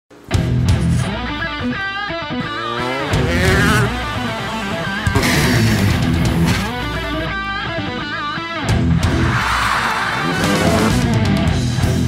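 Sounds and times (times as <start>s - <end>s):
guitar music: 0.2s - 9.4s, 10.0s - 12.0s.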